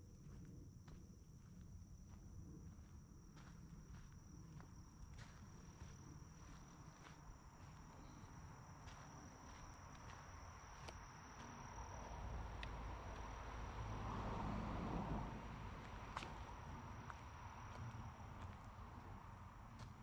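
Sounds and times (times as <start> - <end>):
footsteps on forest trail: 0.2 - 13.4, 15.8 - 20.0
high-pitched insect trill: 2.0 - 19.7.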